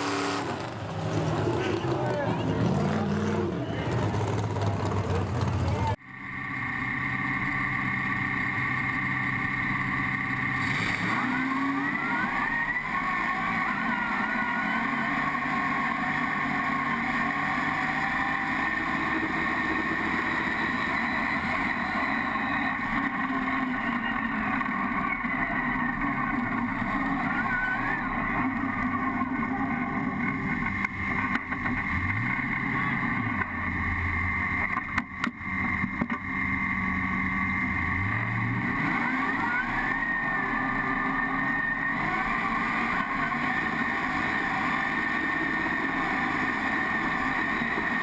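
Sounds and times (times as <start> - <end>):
truck engine running hard: 0.0 - 48.0.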